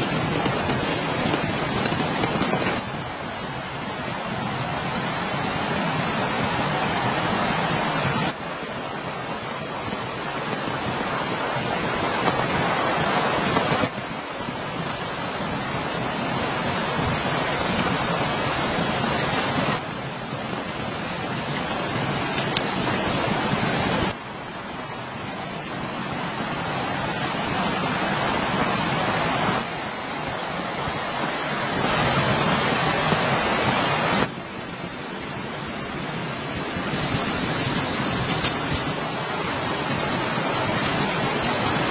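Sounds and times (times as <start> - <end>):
heavy rain hiss: 0.0 - 41.9.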